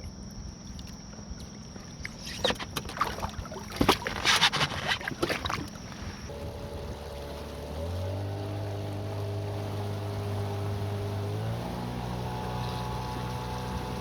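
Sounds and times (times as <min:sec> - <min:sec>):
small boat engine running: 0:00.0 - 0:14.0.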